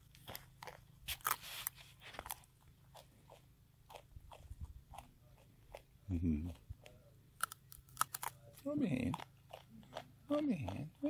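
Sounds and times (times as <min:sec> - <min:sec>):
animal crunching dry noodles: 0:00.0 - 0:11.0.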